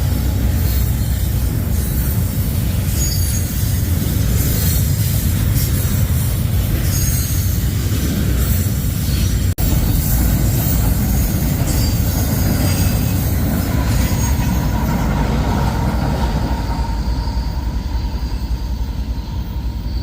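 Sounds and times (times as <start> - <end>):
train wheels rumbling on rail: 0.0 - 20.0
high-pitched wheel squeal: 0.4 - 20.0.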